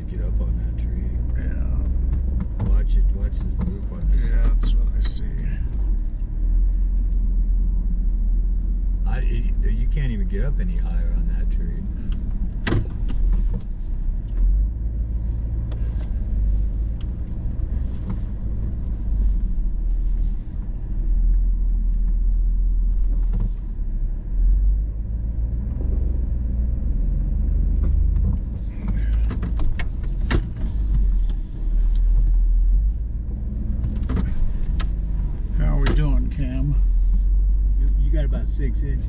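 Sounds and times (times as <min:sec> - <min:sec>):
engine rumble inside vehicle cabin: 0:00.0 - 0:39.0.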